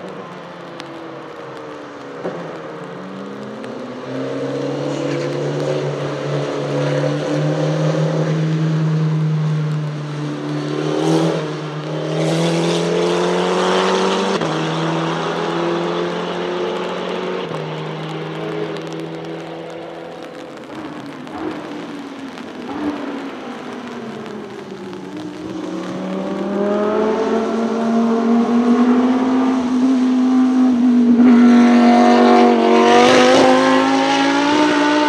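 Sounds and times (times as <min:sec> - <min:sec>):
race car engine: 0:00.0 - 0:35.0.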